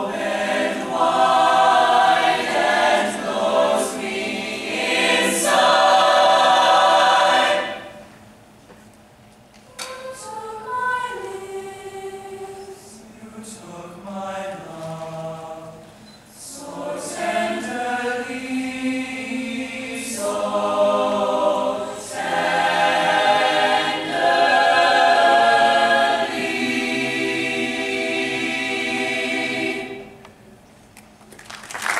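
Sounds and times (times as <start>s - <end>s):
choir singing a slow ballad: 0.0s - 8.2s, 9.7s - 30.5s.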